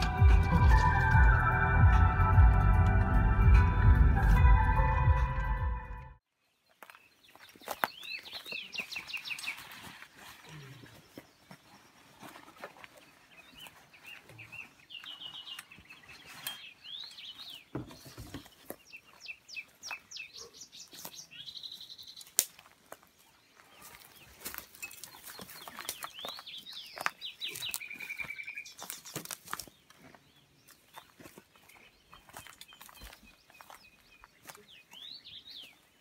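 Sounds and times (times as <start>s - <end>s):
birds chirping: 6.3s - 36.0s.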